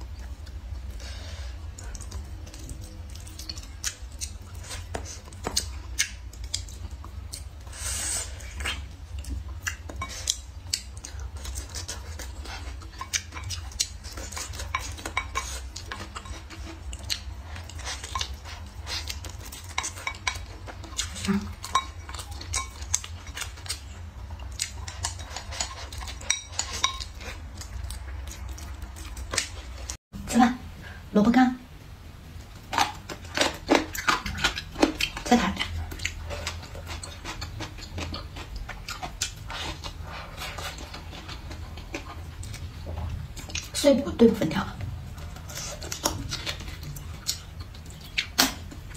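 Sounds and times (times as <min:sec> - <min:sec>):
chewing sounds: 0:00.0 - 0:30.0, 0:32.5 - 0:43.8, 0:44.6 - 0:48.9
steady low hum: 0:00.0 - 0:48.9.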